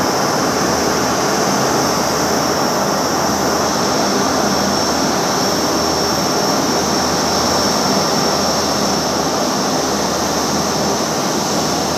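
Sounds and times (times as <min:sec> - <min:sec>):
jet engines humming with high whine: 0:00.0 - 0:11.9.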